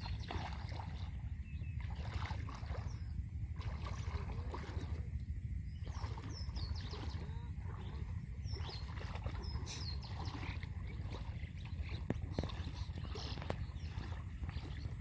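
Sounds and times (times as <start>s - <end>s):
low rumble: 0.0s - 15.0s
water sloshing and splashing: 0.0s - 15.0s.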